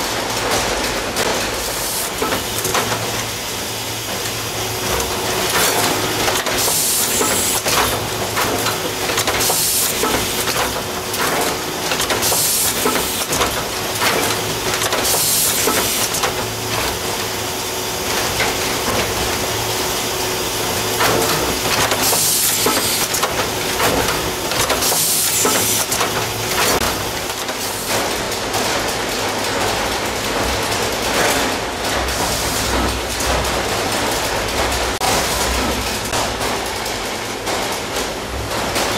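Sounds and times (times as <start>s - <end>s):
machine conveyor clattering: 0.0s - 38.9s.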